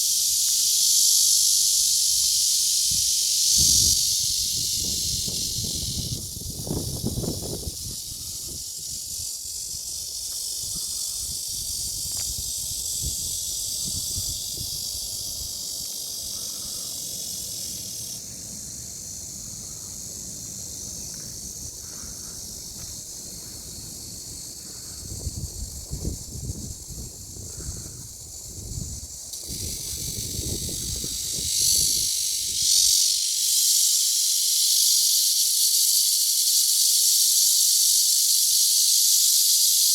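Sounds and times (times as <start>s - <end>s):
cicadas chorus buzzing: 0.0s - 39.9s.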